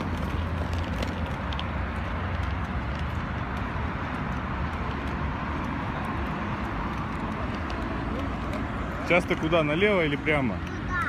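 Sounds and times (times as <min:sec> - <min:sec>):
scooter wheels rolling over asphalt: 0:00.0 - 0:11.0.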